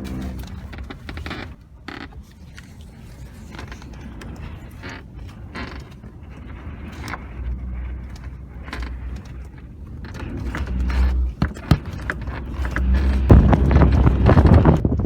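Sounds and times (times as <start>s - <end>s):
sharp knocks of airframe rocking: 0.0s - 15.0s
wind gusts buffeting aircraft: 2.3s - 15.0s.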